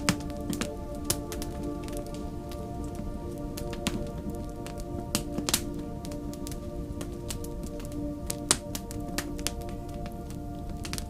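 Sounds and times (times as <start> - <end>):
slow ambient music: 0.0 - 11.0
wood fire crackling: 0.0 - 11.0.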